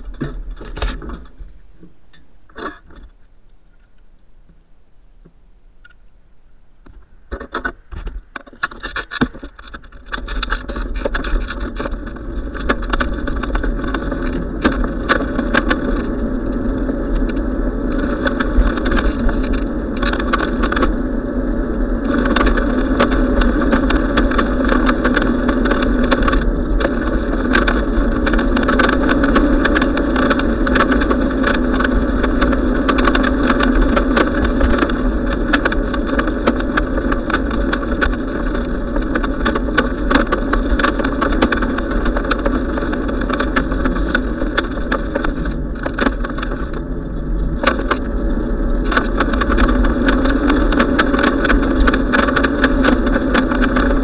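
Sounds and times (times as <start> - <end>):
bicycle clicks and rattles: 0.0 - 3.2, 6.9 - 54.0
tyres rolling on asphalt: 0.0 - 3.9, 6.9 - 54.0
wind rumble on microphone: 0.0 - 3.9, 6.8 - 54.0.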